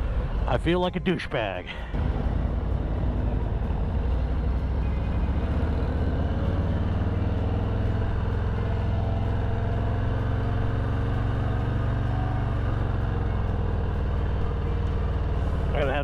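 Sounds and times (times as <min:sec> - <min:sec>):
motorcycle exhaust rumble: 0:01.9 - 0:16.0.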